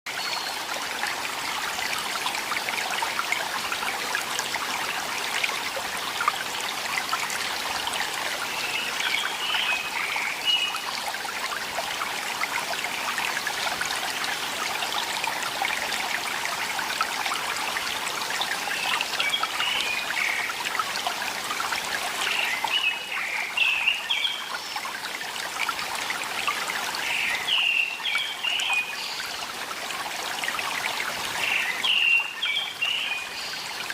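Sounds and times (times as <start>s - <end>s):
stream water trickling: 0.1s - 33.9s.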